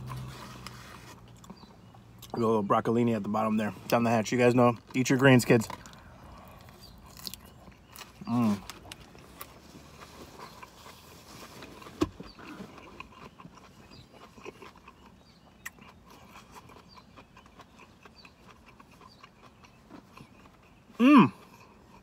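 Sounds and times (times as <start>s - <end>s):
person chewing food: 0.0s - 2.4s, 5.7s - 22.0s.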